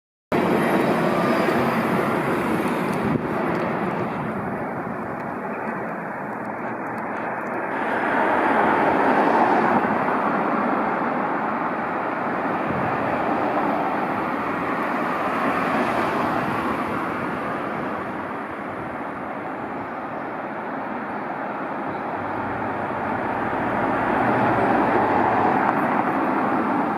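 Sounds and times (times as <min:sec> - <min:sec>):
road traffic passing: 0:00.3 - 0:26.9.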